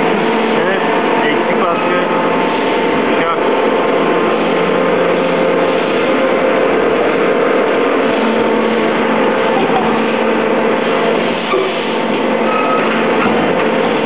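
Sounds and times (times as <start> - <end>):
moulding machine humming: 0.0 - 14.0.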